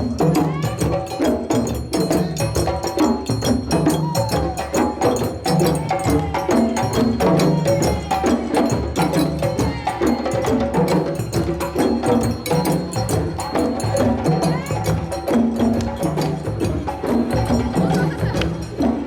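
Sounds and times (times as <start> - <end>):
rapid drumming: 0.0 - 19.0.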